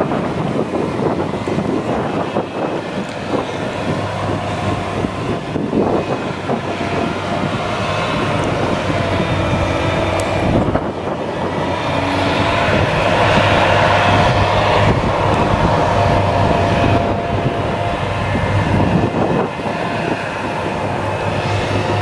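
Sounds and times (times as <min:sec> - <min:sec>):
forage harvester drone: 0:00.0 - 0:22.0
machine whine: 0:00.0 - 0:22.0.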